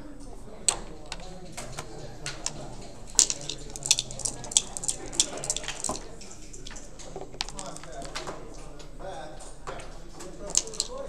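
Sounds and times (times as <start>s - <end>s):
game pieces clicking on board: 0.6s - 11.0s.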